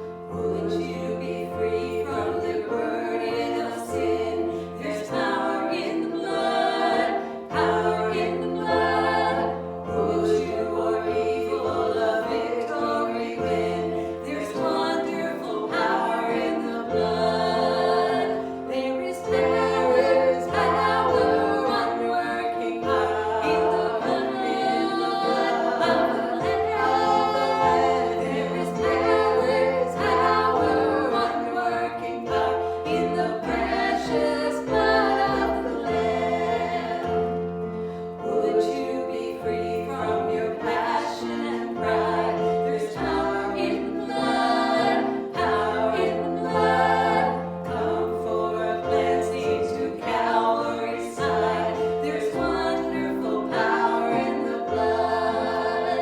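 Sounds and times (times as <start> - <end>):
voices singing together: 0.0 - 56.0.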